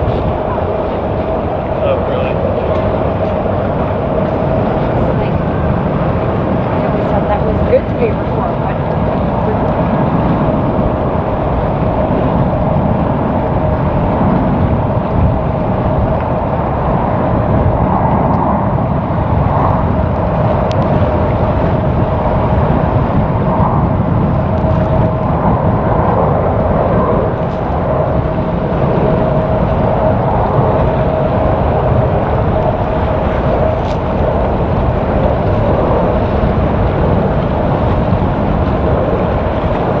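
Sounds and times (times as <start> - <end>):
jet engine whine: 0.0 - 40.0
wind buffeting microphone: 0.0 - 40.0.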